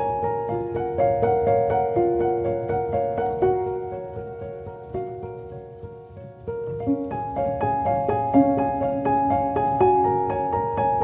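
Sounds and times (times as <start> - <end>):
instrumental melody: 0.0 - 11.0.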